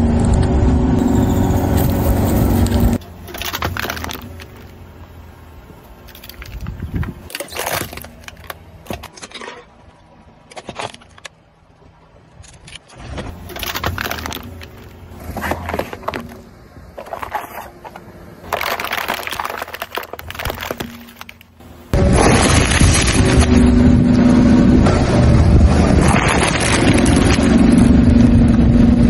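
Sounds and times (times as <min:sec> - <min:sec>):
car tyre crushing objects: 0:01.0 - 0:11.6, 0:12.4 - 0:23.8, 0:24.8 - 0:28.6.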